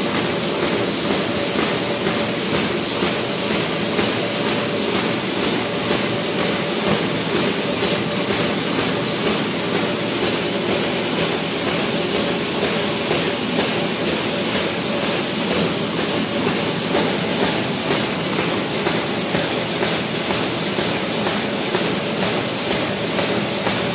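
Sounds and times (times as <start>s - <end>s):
machine rhythmic mechanical clatter: 0.0s - 23.9s.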